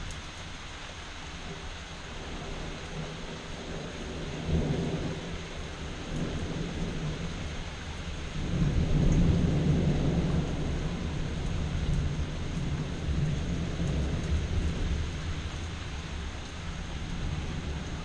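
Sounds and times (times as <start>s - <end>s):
steady rain: 0.0s - 18.0s
thunder rumbling: 2.2s - 18.0s.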